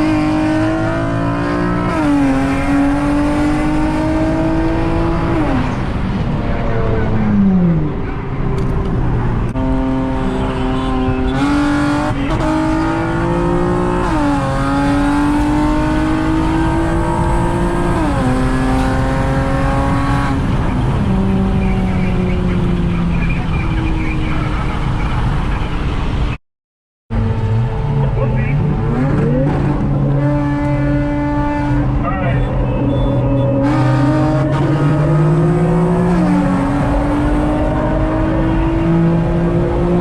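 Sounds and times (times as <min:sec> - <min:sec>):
car engine accelerating through gears: 0:00.0 - 0:26.2, 0:27.1 - 0:40.0.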